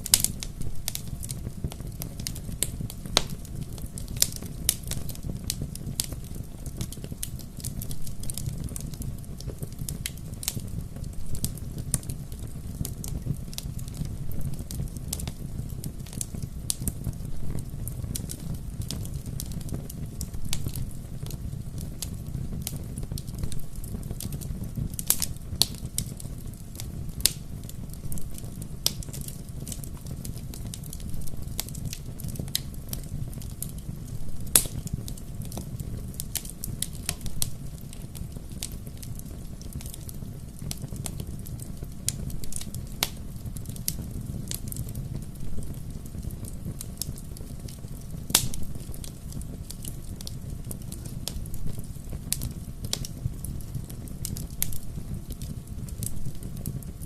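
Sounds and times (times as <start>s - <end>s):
fire crackles and pops: 0.0s - 57.0s
wood fire rumbling: 0.0s - 57.0s.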